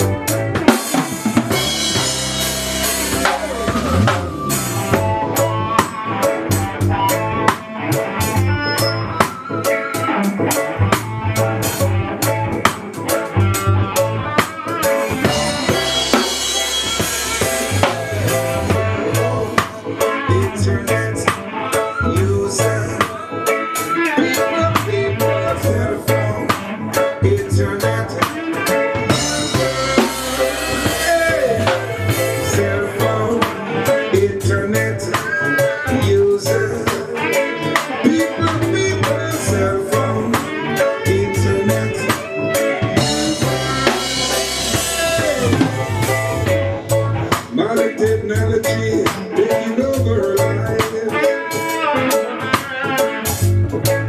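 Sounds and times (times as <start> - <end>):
band playing: 0.0 - 54.0
drum kit steady beat: 0.0 - 54.0.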